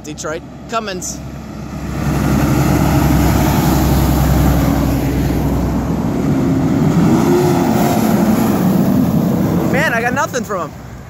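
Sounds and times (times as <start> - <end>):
fire truck diesel engine driving by: 0.0 - 11.0.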